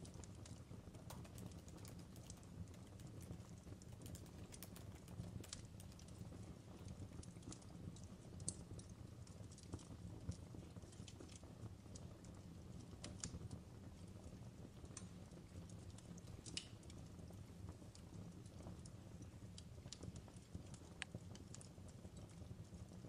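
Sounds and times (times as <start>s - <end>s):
fireplace crackling: 0.0s - 23.0s.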